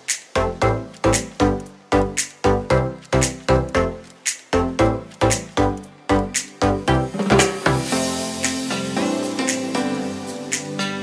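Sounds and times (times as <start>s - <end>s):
background music held notes: 0.0s - 11.0s
drum-kit beats: 0.0s - 11.0s.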